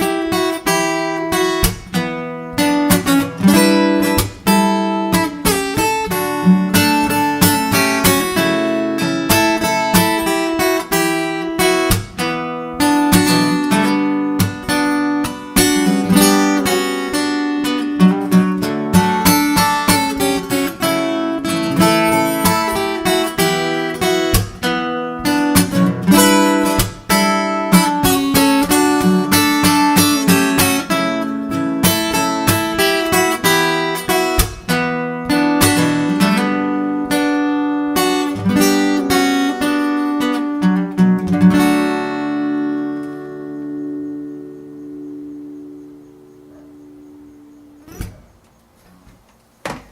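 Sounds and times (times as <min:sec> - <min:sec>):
acoustic guitar fingerstyle: 0:00.0 - 0:49.9.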